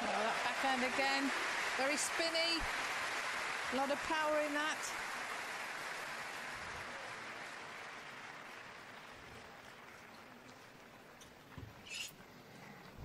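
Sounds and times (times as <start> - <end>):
crowd applauding: 0.0 - 11.2.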